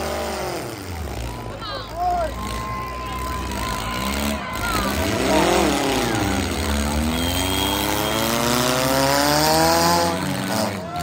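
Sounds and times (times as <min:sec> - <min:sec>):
low engine rumble: 0:00.0 - 0:09.0
car engines revving: 0:00.0 - 0:11.0.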